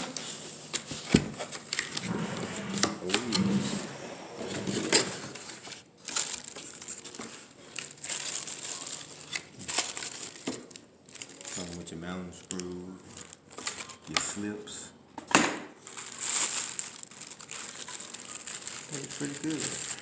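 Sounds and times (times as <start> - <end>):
packaging crinkling and rustling: 0.0 - 14.2, 15.8 - 20.0.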